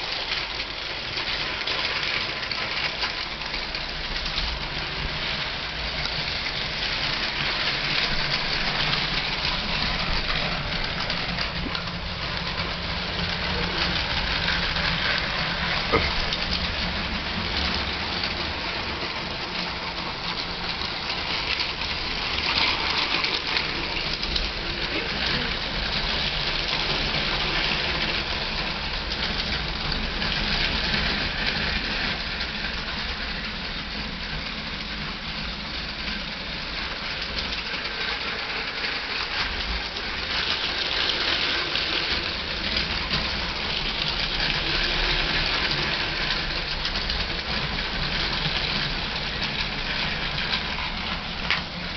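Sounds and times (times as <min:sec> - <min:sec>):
toy trains running on plastic rails: 0:00.0 - 0:51.9.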